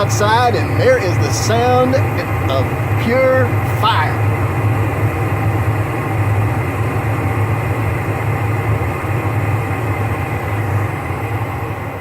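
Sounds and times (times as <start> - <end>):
gas furnace burners rumbling: 0.0 - 12.0.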